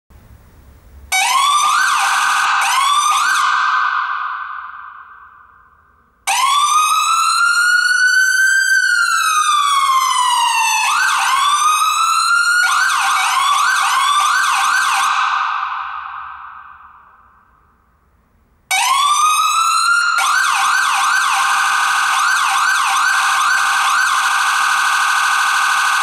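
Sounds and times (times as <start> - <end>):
ambulance siren wail and yelp: 1.1 - 5.2, 6.3 - 16.8, 18.7 - 26.0.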